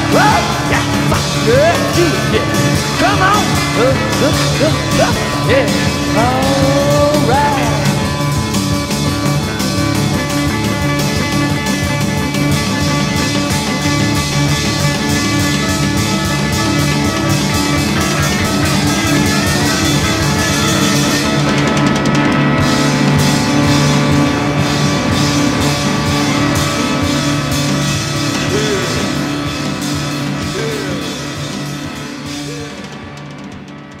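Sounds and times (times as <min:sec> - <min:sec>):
rock music with drums and guitar: 0:00.0 - 0:34.0.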